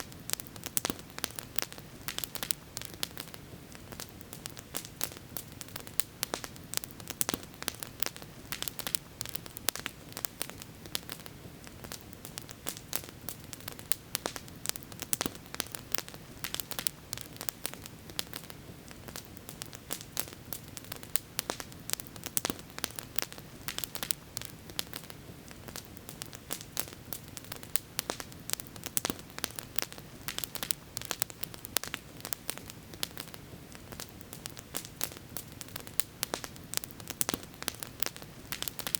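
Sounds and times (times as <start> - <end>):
campfire wood crackling and popping: 0.0 - 38.9.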